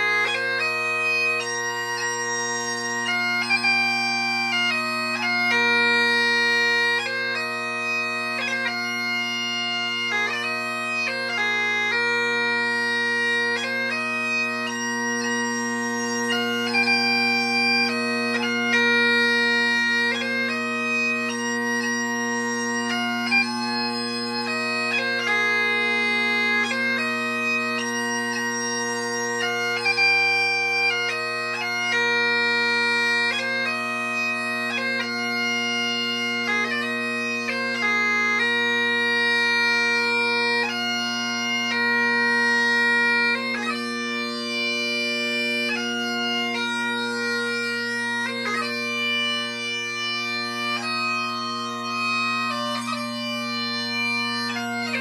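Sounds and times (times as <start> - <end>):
bagpipe playing a slow lament: 0.0 - 55.0.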